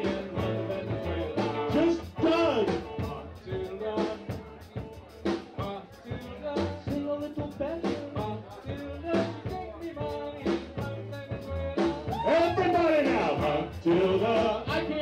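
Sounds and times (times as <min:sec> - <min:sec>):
drum kit steady beat: 0:00.0 - 0:15.0.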